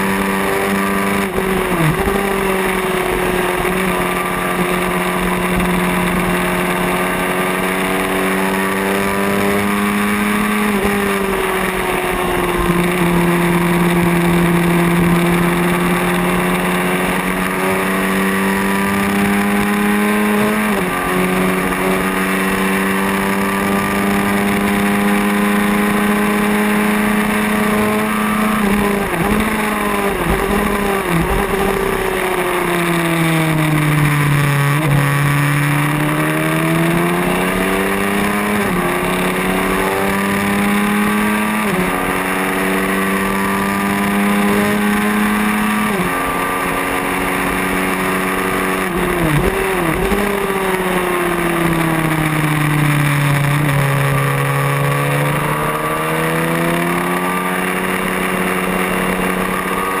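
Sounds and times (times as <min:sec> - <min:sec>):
racing motorcycle engine: 0:00.0 - 1:00.0.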